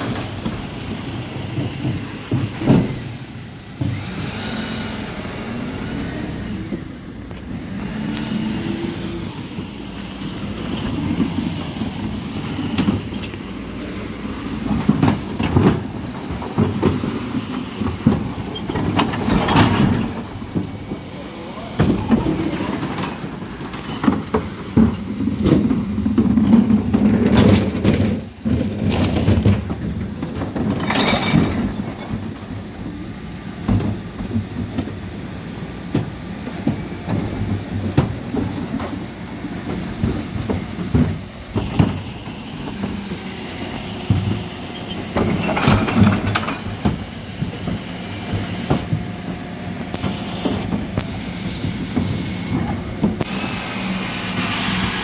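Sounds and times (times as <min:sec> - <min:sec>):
bins clattering and banging: 0:00.0 - 0:04.1, 0:08.6 - 0:53.4
truck engine and hydraulics running: 0:00.0 - 0:55.0.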